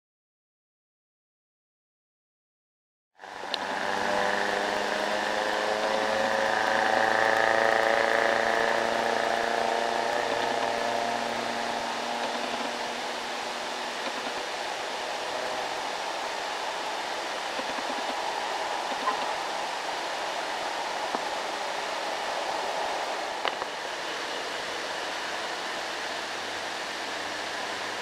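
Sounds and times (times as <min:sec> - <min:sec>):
background rush: 0:03.2 - 0:28.0
heavy vehicle engine hum: 0:03.3 - 0:28.0.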